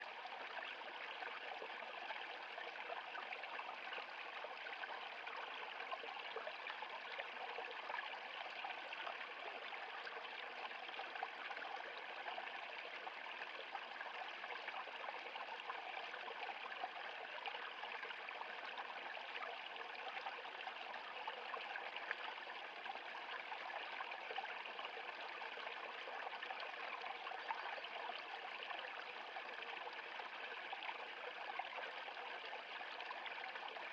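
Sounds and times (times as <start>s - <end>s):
stream water over rocks: 0.0s - 33.9s.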